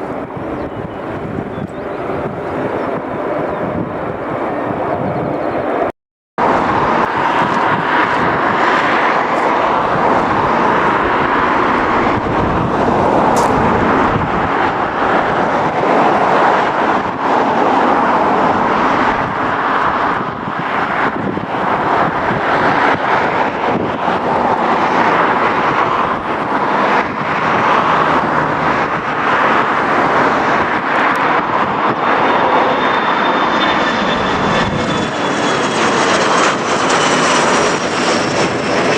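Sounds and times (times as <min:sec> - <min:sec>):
higher engine whine: 0:00.0 - 0:38.9
jet engines whining: 0:00.0 - 0:38.9.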